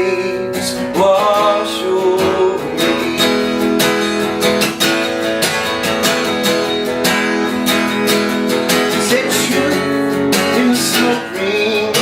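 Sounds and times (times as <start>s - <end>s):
person singing folk song: 0.0s - 4.8s, 7.1s - 12.0s
acoustic guitar strumming: 0.0s - 12.0s.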